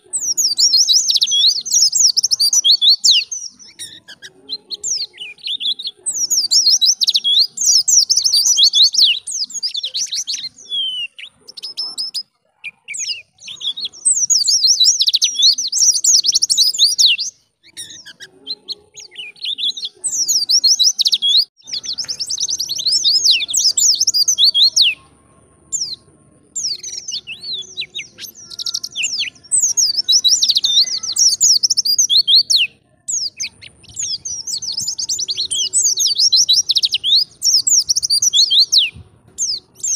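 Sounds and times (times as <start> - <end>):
bird singing high twittering phrases: 0.0 - 39.9.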